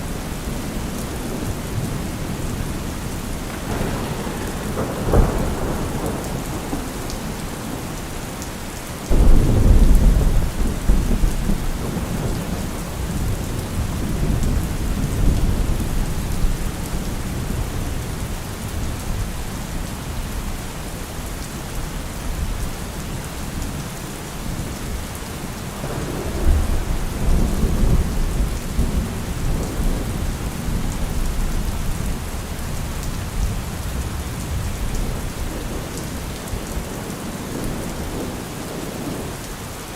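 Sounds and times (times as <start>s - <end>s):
thunder crack and rumble: 0.0s - 20.6s, 23.5s - 39.4s
heavy rain: 0.0s - 39.9s.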